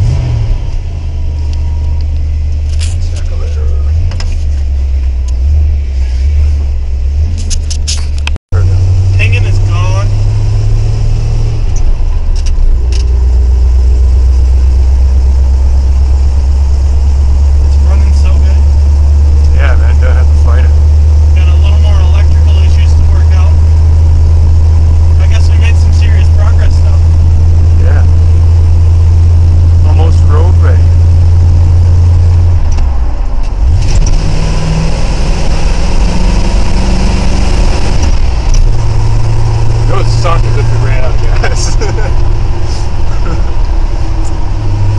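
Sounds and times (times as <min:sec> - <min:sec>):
pickup truck engine revving: 0:00.0 - 0:44.9.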